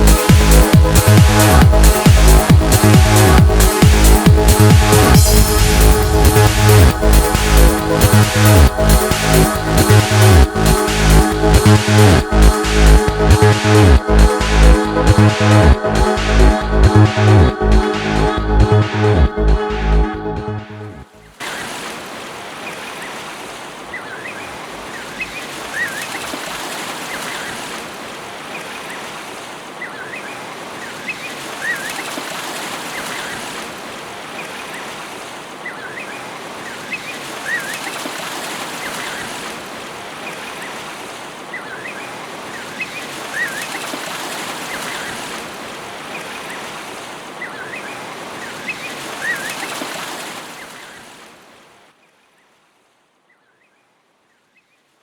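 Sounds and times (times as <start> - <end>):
rushing water: 0.0 - 53.3.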